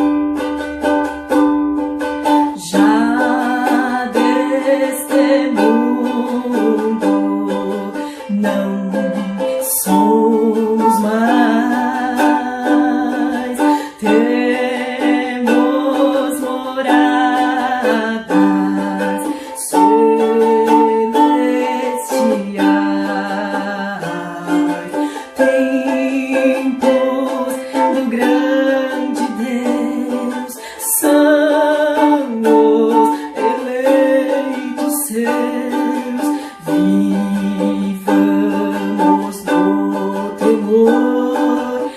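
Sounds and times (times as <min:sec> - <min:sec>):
ukulele strumming chords: 0:00.0 - 0:41.9
person singing a slow hymn: 0:02.5 - 0:41.9.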